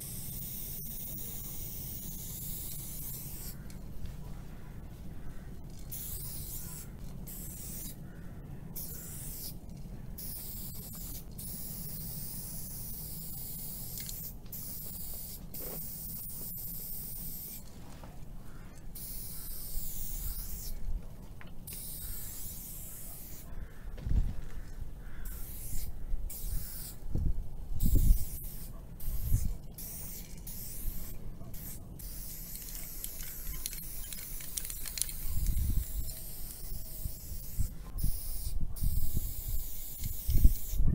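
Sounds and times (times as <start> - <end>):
spray paint can hissing: 0.0 - 3.7, 5.7 - 8.0, 8.8 - 9.6, 10.2 - 17.7, 18.9 - 20.8, 21.6 - 23.5, 25.2 - 27.0, 27.8 - 40.9.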